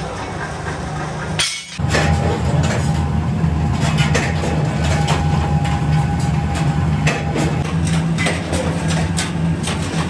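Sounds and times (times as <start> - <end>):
machinery low hum: 0.0 - 10.0.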